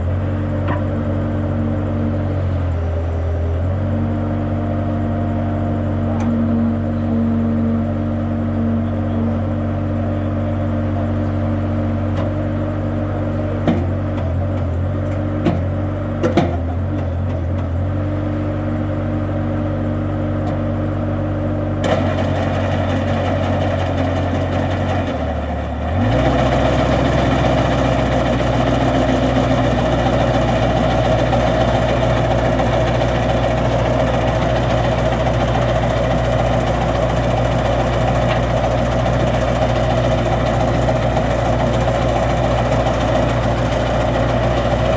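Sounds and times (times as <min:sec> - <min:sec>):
loader engine running: 0:00.0 - 0:44.9.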